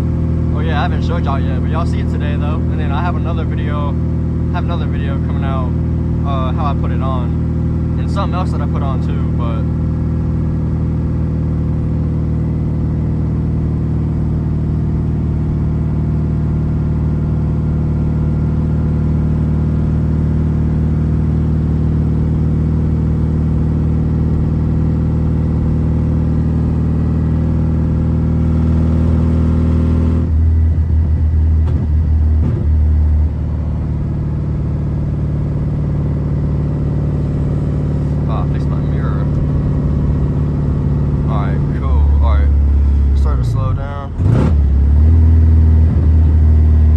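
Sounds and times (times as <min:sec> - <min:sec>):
car engine and exhaust droning: 0:00.0 - 0:46.9.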